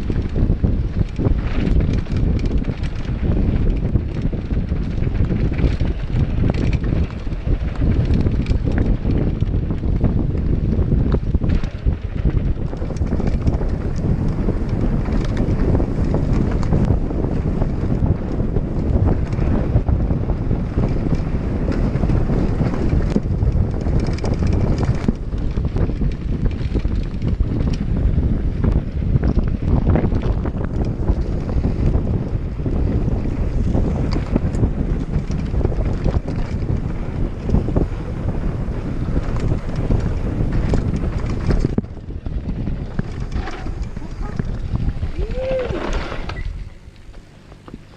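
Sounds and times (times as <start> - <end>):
bike rattling over rough ground: 0.0 - 47.9
wind buffeting microphone: 0.0 - 47.9.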